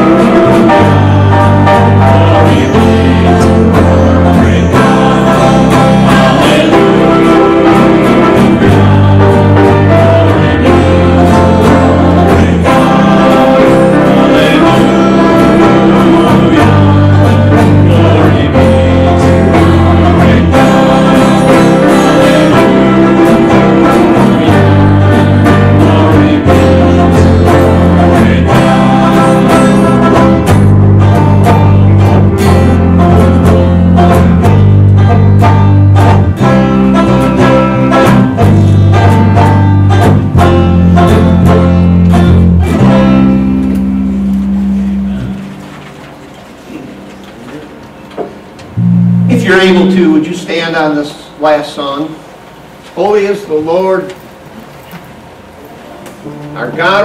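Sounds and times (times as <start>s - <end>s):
band playing slow worship song: 0.0s - 57.0s.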